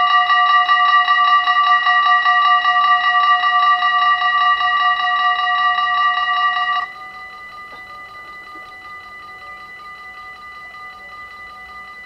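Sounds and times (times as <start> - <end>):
level crossing warning bells clanging: 0.0 - 12.0.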